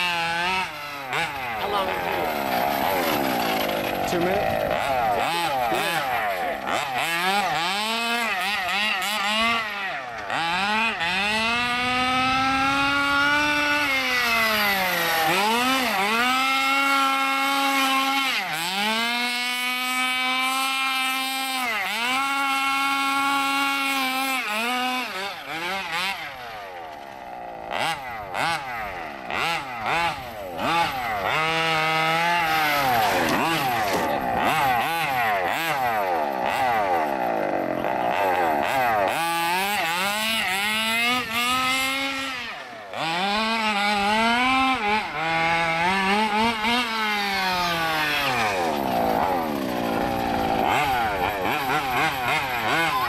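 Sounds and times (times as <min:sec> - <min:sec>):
rc car two-stroke engine revving: 0:00.0 - 0:53.0.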